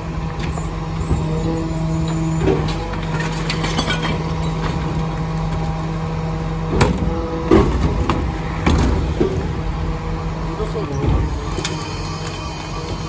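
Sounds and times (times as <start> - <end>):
garbage truck engine humming: 0.0 - 13.0.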